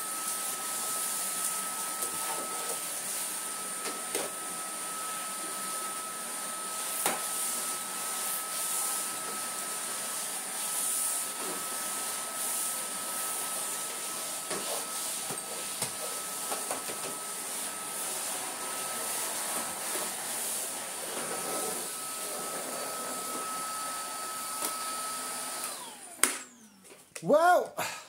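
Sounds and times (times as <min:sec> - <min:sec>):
vacuum cleaner whine and hiss: 0:00.0 - 0:27.1.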